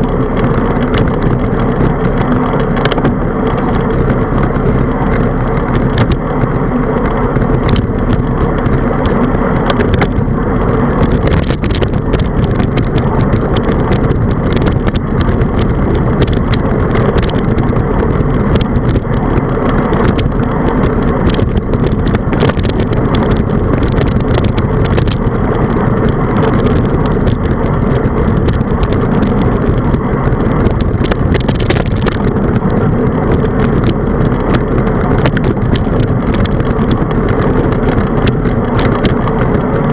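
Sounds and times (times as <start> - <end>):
bicycle road noise: 0.0 - 39.9
bike rattling over bumps: 0.0 - 39.9
wind rushing: 0.0 - 39.9.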